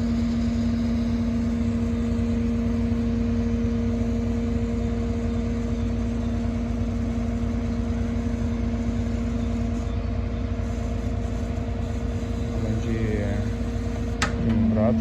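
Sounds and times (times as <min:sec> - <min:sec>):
steady hum: 0:00.0 - 0:15.0
truck engine running: 0:00.0 - 0:15.0.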